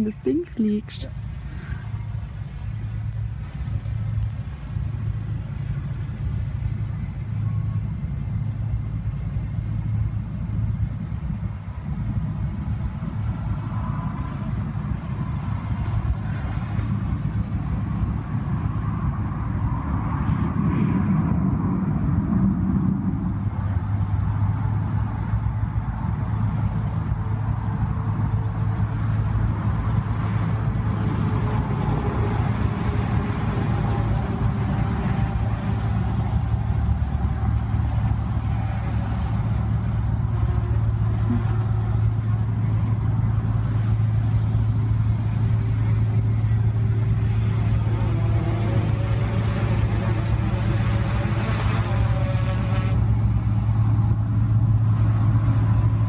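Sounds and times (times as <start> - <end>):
quadcopter propellers humming: 0.0 - 56.0
steady low rumble: 0.0 - 56.0.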